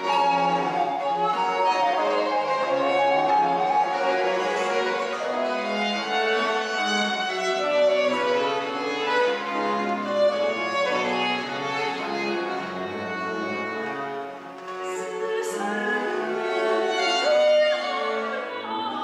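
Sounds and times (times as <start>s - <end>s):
bowed bass strings and continuo: 0.0s - 18.7s
violin melody: 0.0s - 19.0s.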